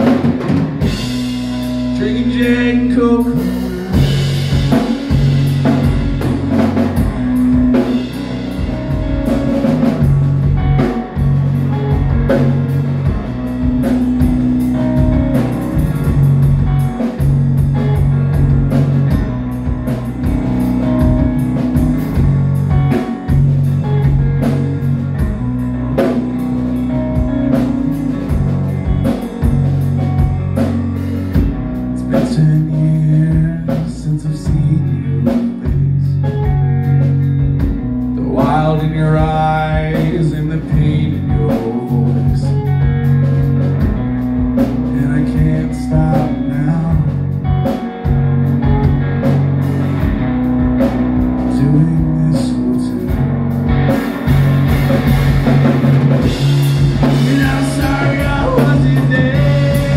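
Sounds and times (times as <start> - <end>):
bass line: 0.0 - 59.9
rock music with singing: 0.0 - 59.9.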